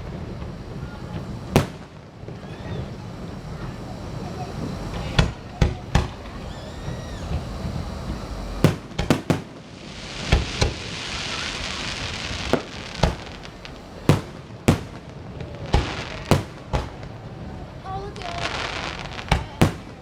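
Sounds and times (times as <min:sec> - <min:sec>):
fireworks bangs: 0:00.0 - 0:20.0
fireworks hissing crackle: 0:00.0 - 0:20.0.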